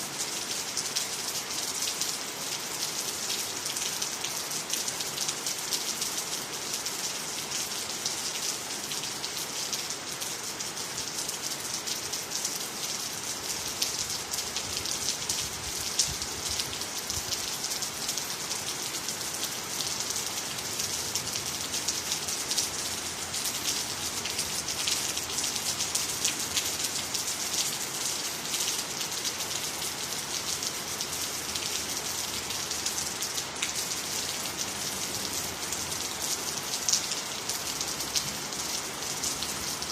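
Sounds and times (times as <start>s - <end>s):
steady rainfall pattering: 0.0s - 39.9s.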